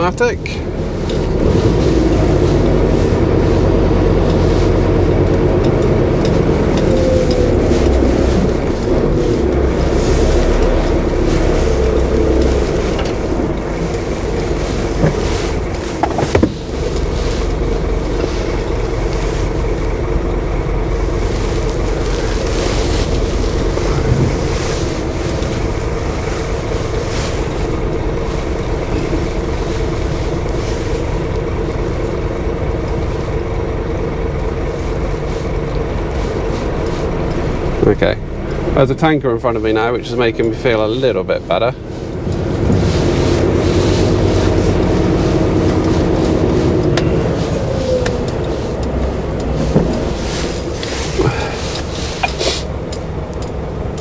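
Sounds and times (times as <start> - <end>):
road noise: 0.0 - 54.0
truck diesel engine drone: 0.0 - 54.0.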